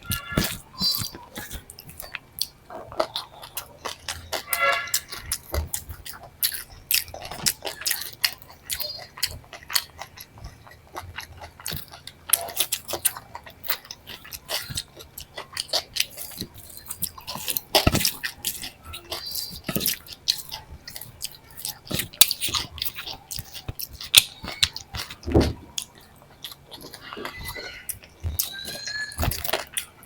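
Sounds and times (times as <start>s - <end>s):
person chewing and biting: 0.0s - 30.0s.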